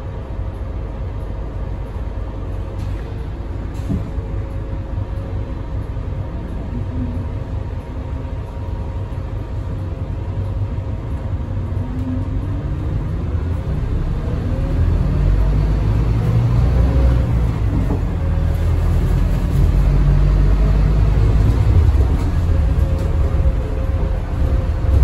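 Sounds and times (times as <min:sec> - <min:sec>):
bus whine rising in pitch: 0:00.0 - 0:25.0
diesel engine rumble: 0:00.0 - 0:25.0.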